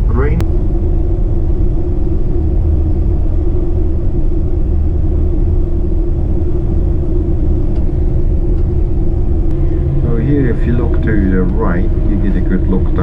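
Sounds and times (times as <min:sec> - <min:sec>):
coach engine and road noise: 0:00.0 - 0:13.0.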